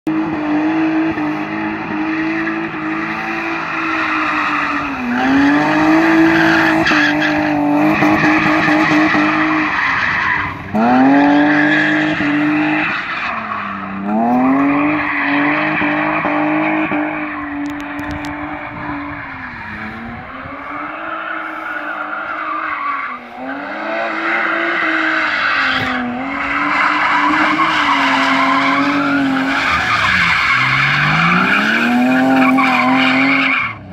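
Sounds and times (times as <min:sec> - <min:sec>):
car engine at high revs: 0:00.1 - 0:33.9
tyres squealing and skidding: 0:00.4 - 0:33.9.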